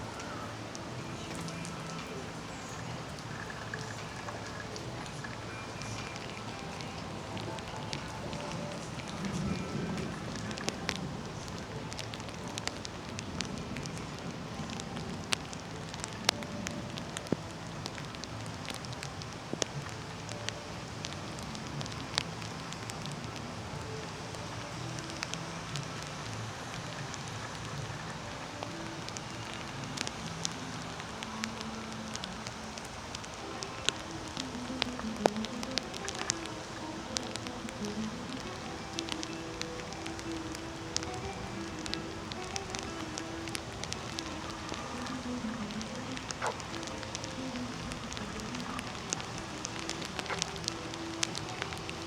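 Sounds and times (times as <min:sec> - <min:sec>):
rain falling: 0:00.0 - 0:52.0
water drips: 0:00.0 - 0:52.0.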